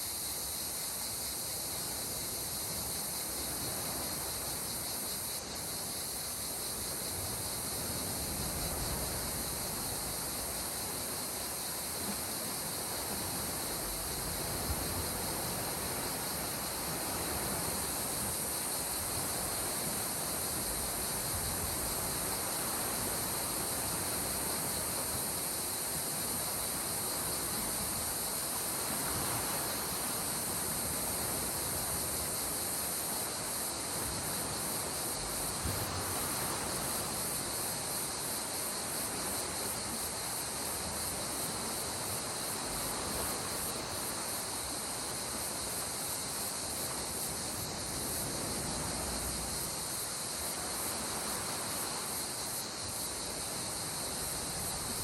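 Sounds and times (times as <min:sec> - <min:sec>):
sea water washing at shore: 0:06.5 - 0:55.0.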